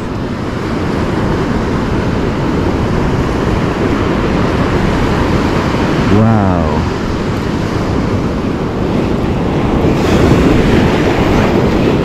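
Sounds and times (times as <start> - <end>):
surf breaking on beach: 0.0 - 12.0
wind rumbling on microphone: 0.0 - 12.0.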